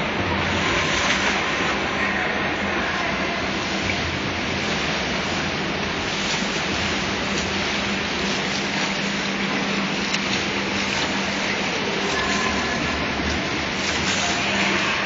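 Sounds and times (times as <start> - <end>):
low steady hum: 0.0 - 15.0
rushing water of swimming pool: 0.0 - 15.0
swimmer splashing: 0.0 - 15.0.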